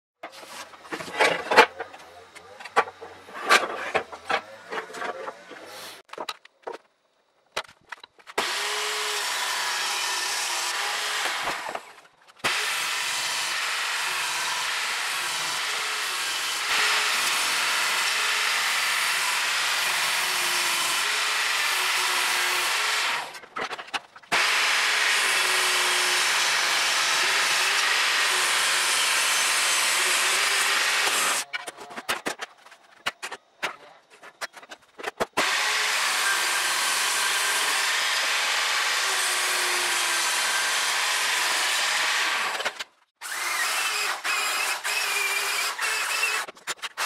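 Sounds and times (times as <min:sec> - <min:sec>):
table saw ripping wood: 0:02.6 - 0:06.1, 0:08.2 - 0:31.5, 0:34.4 - 0:47.0.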